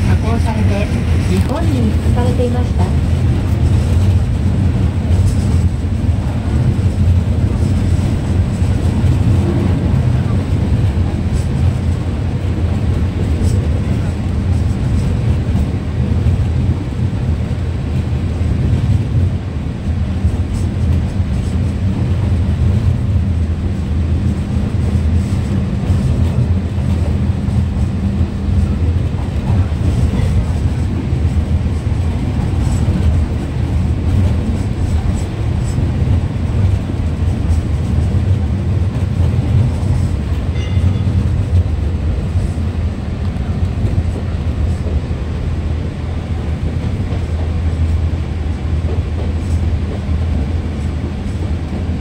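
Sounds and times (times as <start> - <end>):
train rumbling: 0.0 - 52.0.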